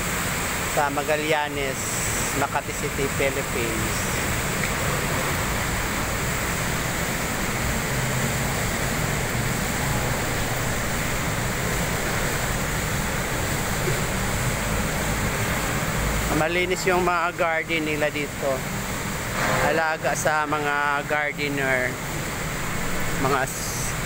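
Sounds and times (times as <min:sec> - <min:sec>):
fountain water splashing: 0:00.0 - 0:24.0
traffic hum: 0:00.0 - 0:24.0.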